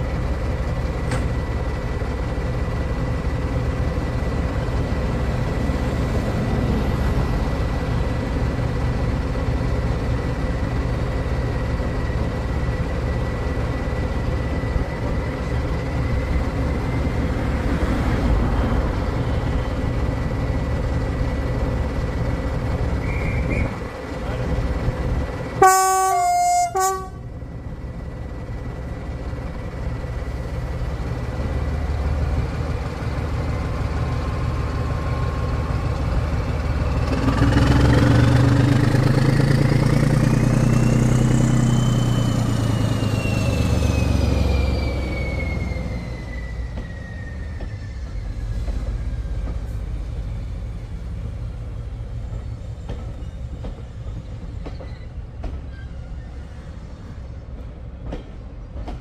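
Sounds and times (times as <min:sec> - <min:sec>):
locomotive whine: 0:00.0 - 0:58.9
diesel locomotive engine rumble: 0:00.0 - 0:59.0
train wheels rumbling on rails: 0:00.0 - 0:59.0.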